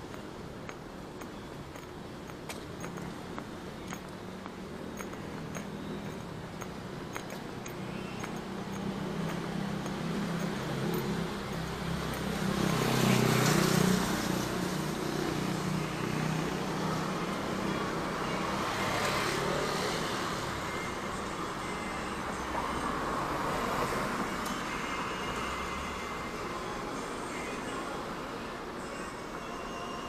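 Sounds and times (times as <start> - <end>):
cars passing: 0.0 - 26.9
steady traffic hum: 0.0 - 30.0.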